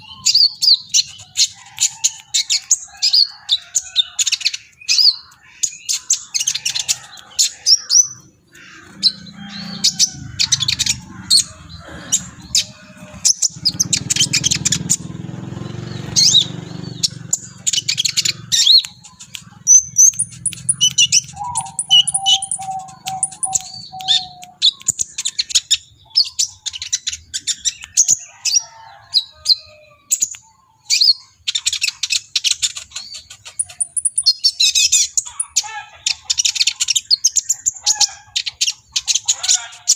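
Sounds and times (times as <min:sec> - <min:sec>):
sunbird twittering chirps and trills: 0:00.0 - 0:39.9.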